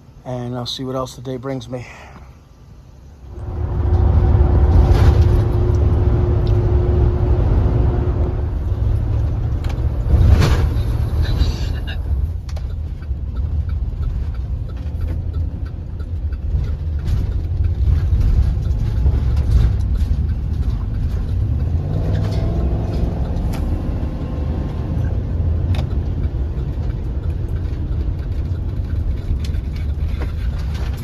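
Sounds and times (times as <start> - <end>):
road rumble: 0.0 - 31.0
vehicle engine: 2.6 - 31.0.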